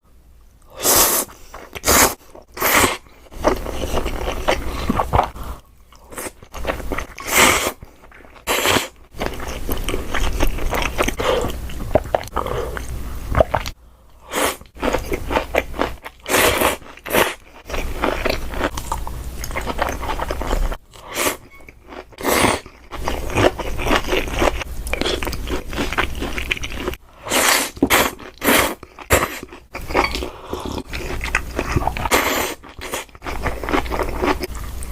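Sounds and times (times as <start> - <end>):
chewing: 3.2 - 13.8, 14.6 - 27.0, 27.7 - 34.9.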